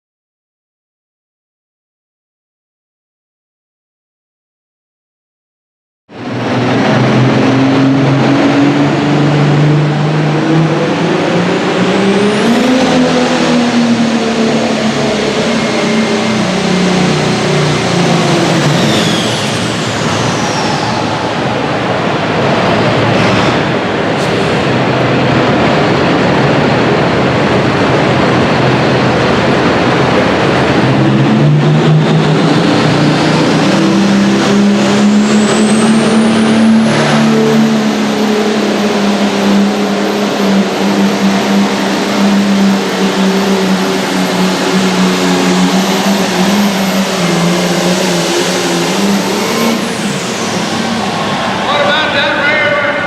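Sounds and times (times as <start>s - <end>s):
tractor diesel engine under load: 6.1s - 53.0s.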